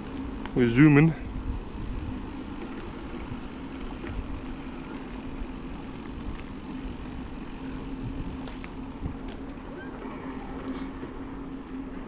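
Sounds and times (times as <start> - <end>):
wind buffeting microphone: 0.0 - 10.8
steady hum: 0.0 - 12.0.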